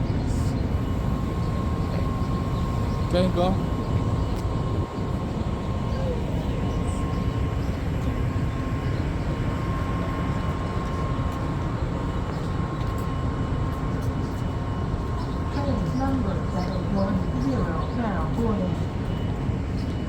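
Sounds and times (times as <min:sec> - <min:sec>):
standing train rumbling: 0:00.0 - 0:20.0
steady high hum: 0:00.0 - 0:20.0.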